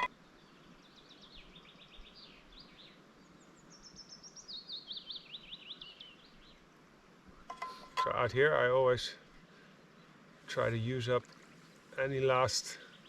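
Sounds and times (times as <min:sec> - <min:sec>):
songbird singing faintly: 0:00.0 - 0:13.0.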